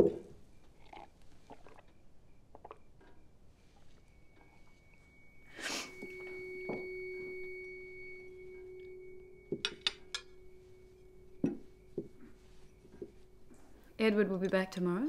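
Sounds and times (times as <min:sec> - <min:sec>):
steady ringing tone: 0:00.0 - 0:15.0.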